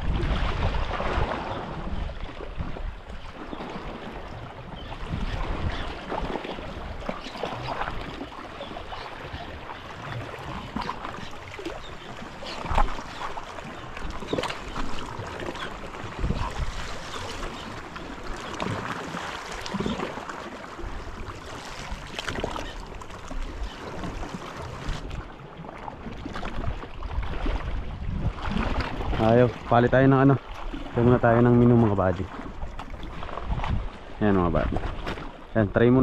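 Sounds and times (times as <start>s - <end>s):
water lapping against rocks: 0.0s - 36.0s.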